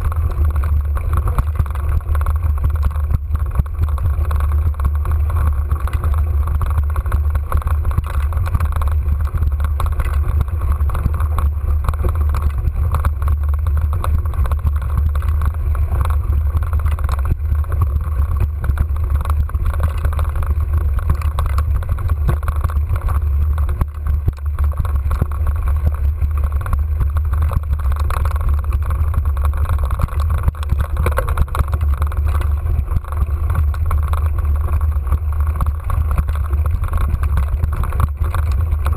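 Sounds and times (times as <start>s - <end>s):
bike rattle: 0.0s - 38.9s
mountain bike tyres on dirt trail: 0.0s - 38.9s.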